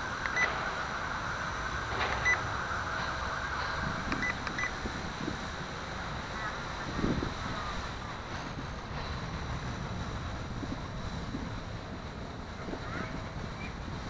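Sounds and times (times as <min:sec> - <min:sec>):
quadcopter rotors whirring: 0:00.0 - 0:14.0.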